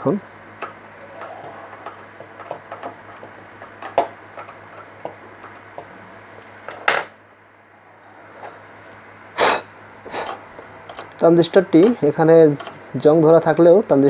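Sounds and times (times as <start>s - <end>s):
low mains hum: 0.0s - 14.0s.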